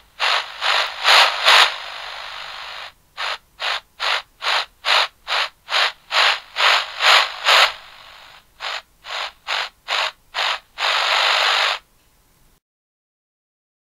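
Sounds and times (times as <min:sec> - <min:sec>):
radio static bursts: 0:00.0 - 0:11.9.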